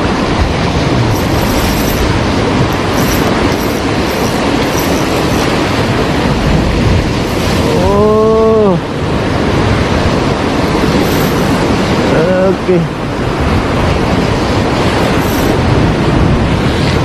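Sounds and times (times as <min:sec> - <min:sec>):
heavy surf breaking: 0:00.0 - 0:17.0
wind noise: 0:00.0 - 0:17.0.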